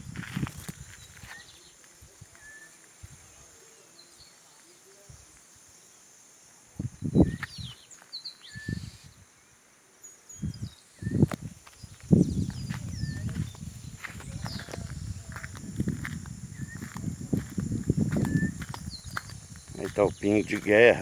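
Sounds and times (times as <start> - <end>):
faint birds chirping: 0.8 - 21.0.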